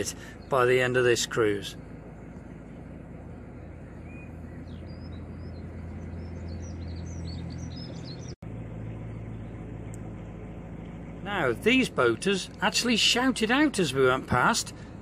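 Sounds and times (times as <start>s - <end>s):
small birds chirping: 0.0s - 13.8s
boat engine humming: 0.0s - 15.0s.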